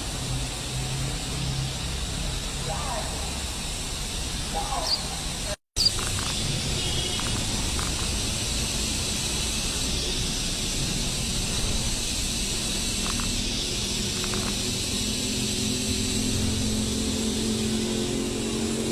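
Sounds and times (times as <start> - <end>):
outdoor background hiss: 0.0 - 18.9.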